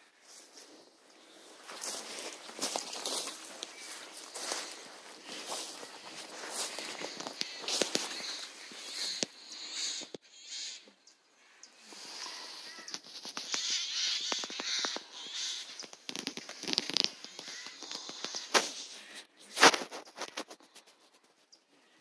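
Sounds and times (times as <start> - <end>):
dry leaves crackling underfoot: 0.1 - 10.1, 11.9 - 21.4.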